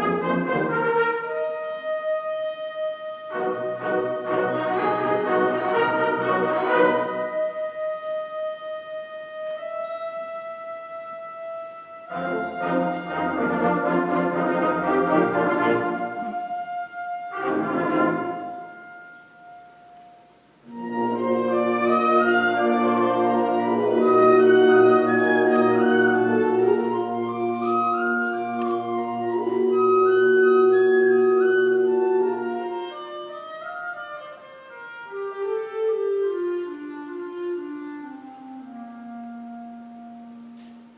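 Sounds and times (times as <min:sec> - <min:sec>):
orchestral brass and woodwind chords: 0:00.0 - 0:40.9.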